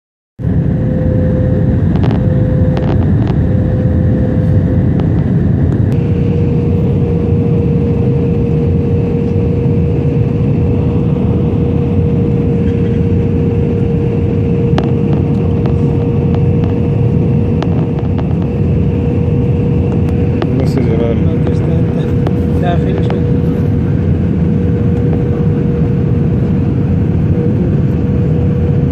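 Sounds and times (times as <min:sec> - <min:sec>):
airliner engines and airflow roar: 0:00.4 - 0:28.9
steady hum: 0:00.4 - 0:28.9.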